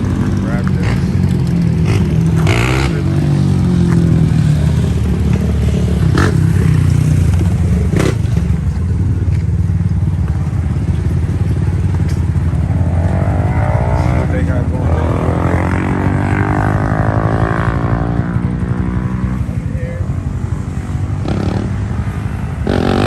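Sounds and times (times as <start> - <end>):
engines idling: 0.0 - 23.0.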